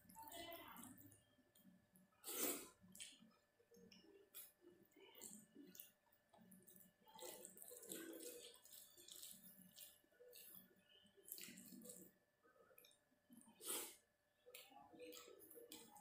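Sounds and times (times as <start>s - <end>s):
wet squelches of fingers mixing rice: 0.0s - 16.0s.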